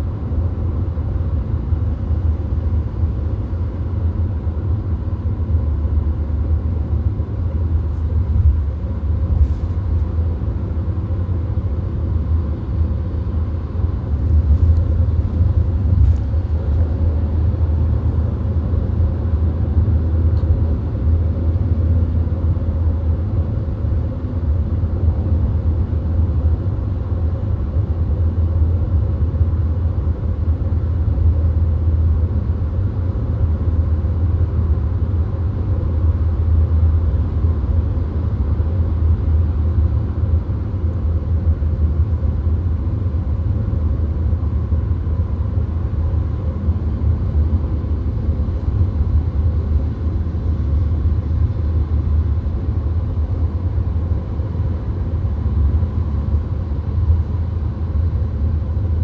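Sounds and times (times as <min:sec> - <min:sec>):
car interior road drone: 0:00.0 - 0:59.0.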